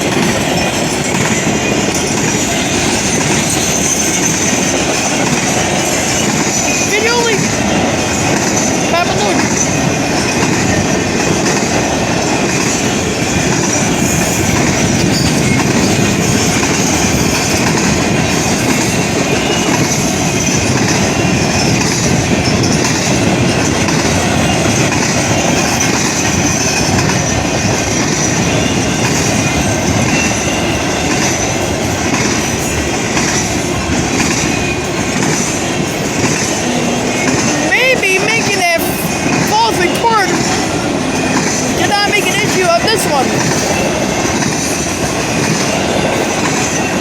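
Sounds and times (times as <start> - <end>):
train wheels rumbling on rail: 0.0 - 47.0
wheels clickety-clack: 0.0 - 47.0.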